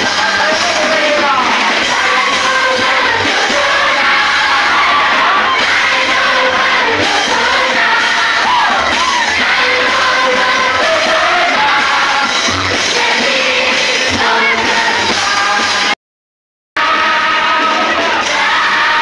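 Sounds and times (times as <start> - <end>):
crowd of children singing: 0.0 - 16.0, 16.8 - 19.0
music: 0.0 - 16.0, 16.8 - 19.0.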